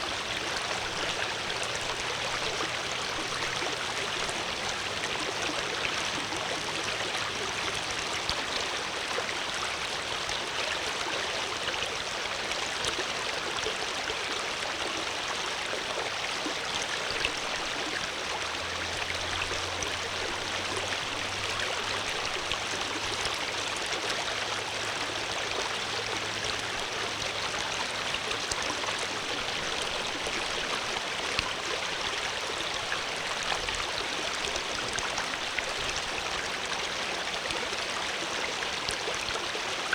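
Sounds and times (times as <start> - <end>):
water flowing: 0.0 - 10.6, 16.1 - 39.9.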